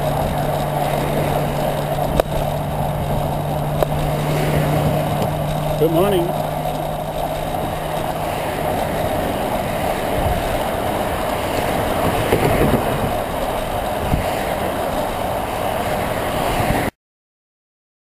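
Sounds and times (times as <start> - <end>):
highway traffic passing: 0.0 - 16.9
wind rush on microphone: 0.0 - 16.9.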